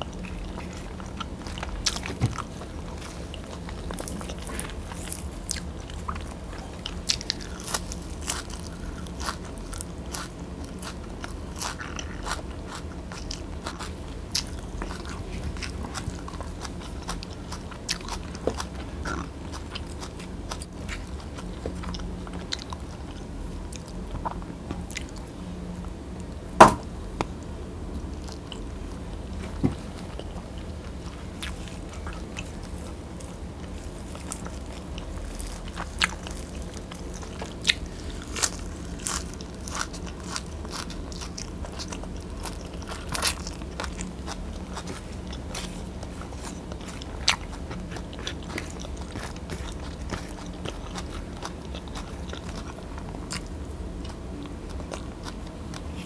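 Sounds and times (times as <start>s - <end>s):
person chewing with wet clicks: 0.0s - 25.3s, 30.0s - 56.0s.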